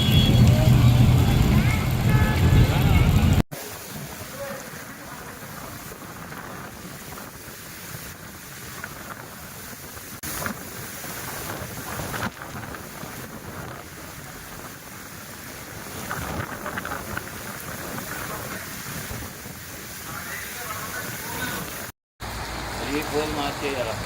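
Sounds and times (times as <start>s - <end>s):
rain: 0.0s - 24.0s
wind buffeting microphone: 0.1s - 21.9s.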